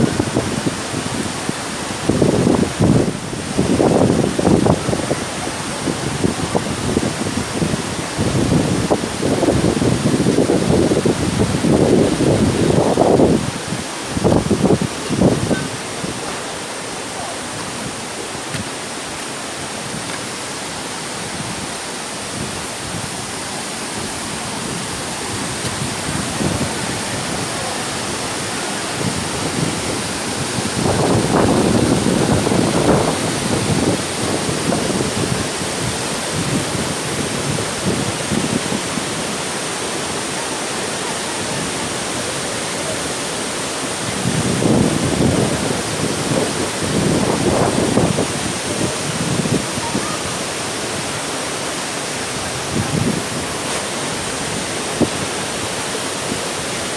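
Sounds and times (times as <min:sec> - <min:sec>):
low gusts: 0:00.0 - 0:56.9
waterfall rushing: 0:00.0 - 0:56.9.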